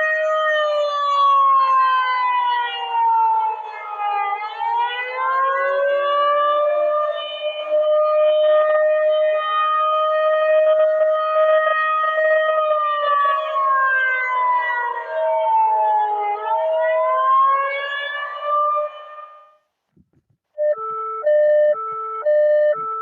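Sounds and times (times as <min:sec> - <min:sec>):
siren wailing: 0:00.0 - 0:19.6.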